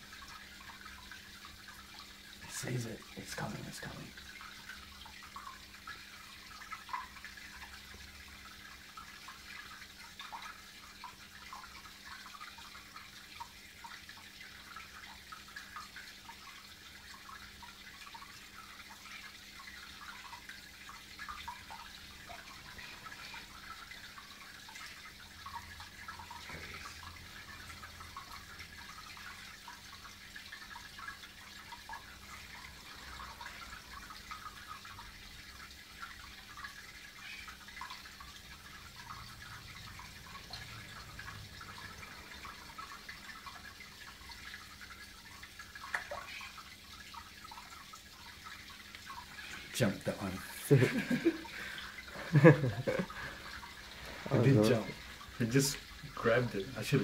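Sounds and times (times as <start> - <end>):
water trickling and bubbling: 0.0 - 57.0
small splashes: 5.1 - 57.0.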